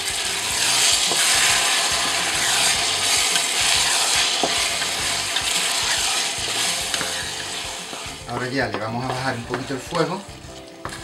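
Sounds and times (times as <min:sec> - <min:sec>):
vegetables sizzling in oil: 0:00.0 - 0:10.2
wooden spoon stirring: 0:00.1 - 0:11.0.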